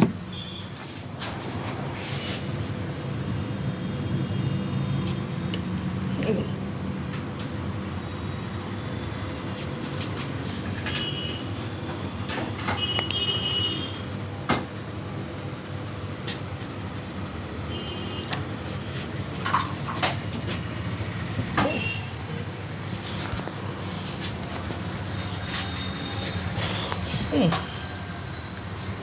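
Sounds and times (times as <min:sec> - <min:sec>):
street traffic noise: 0:00.0 - 0:29.0.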